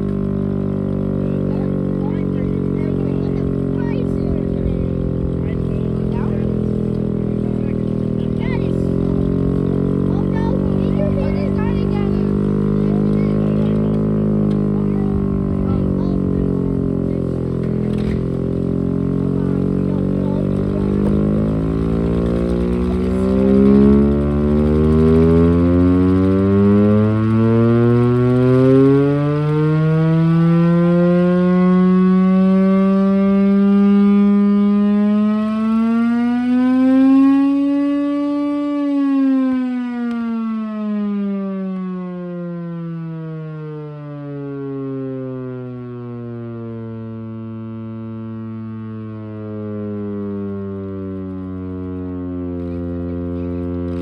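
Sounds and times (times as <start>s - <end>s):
air raid siren rising and falling: 0.0s - 54.0s
low engine rumble: 0.0s - 54.0s.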